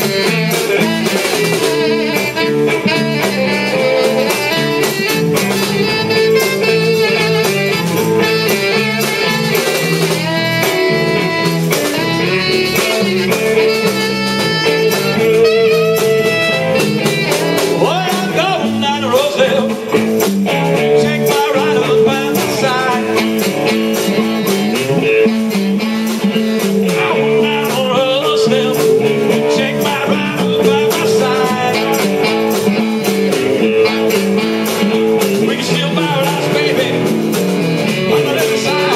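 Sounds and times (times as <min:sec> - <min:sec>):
drums: 0:00.0 - 0:38.9
electric bass: 0:00.0 - 0:38.9
electric guitar: 0:00.0 - 0:38.9
saxophone: 0:00.0 - 0:38.9.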